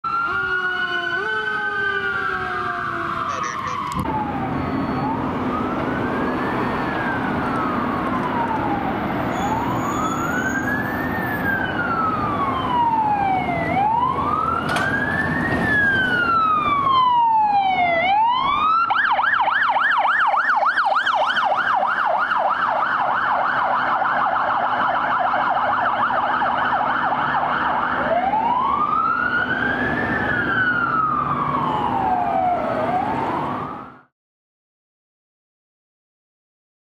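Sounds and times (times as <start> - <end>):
electronic siren wailing and yelping: 0.0 - 34.1
siren stepped tones: 0.0 - 34.1.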